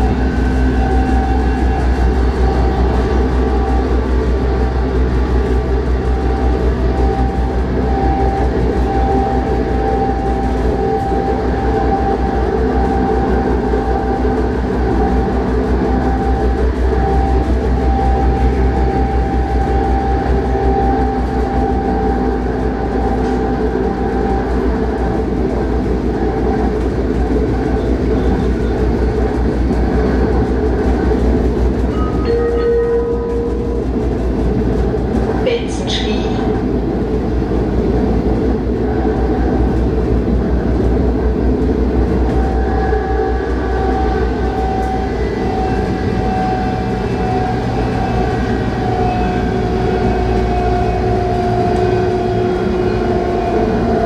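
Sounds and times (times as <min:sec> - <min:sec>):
train drive whine: 0:00.0 - 0:54.0
train wheels rumbling on rails: 0:00.0 - 0:54.0.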